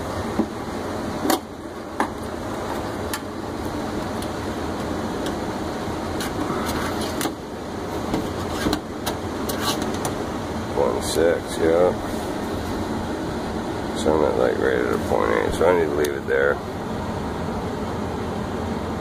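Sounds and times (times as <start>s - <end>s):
furnace blower rushing air: 0.0s - 19.0s.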